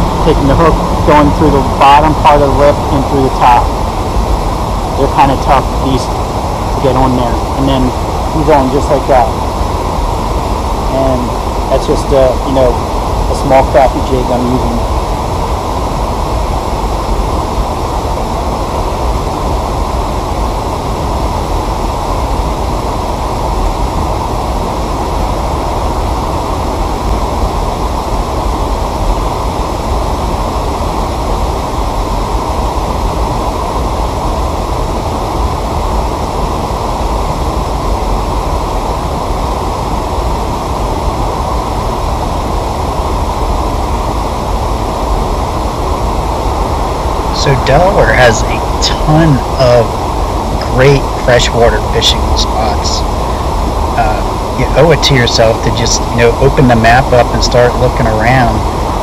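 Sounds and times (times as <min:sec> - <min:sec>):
steady rushing noise with low rumble: 0:00.0 - 0:59.0.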